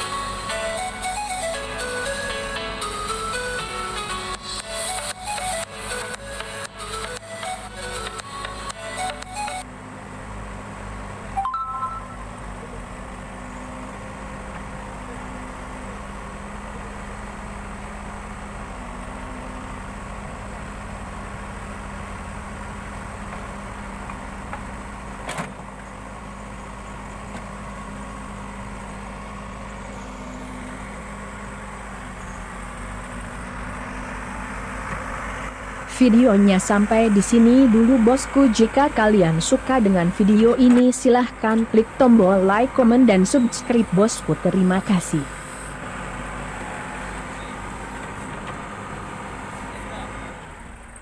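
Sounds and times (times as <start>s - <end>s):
backhoe engine running: 0.0s - 51.0s.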